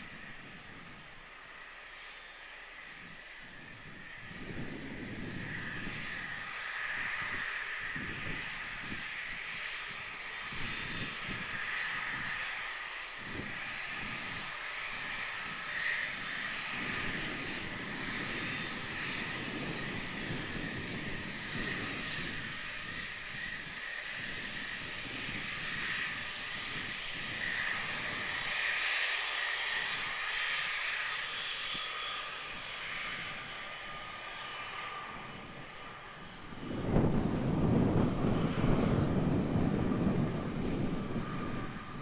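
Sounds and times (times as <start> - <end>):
jet engines whining and rumbling: 0.0 - 42.0.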